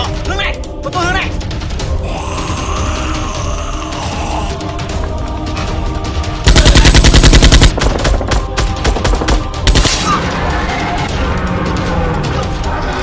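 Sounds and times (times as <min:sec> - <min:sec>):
action music: 0:00.0 - 0:13.0.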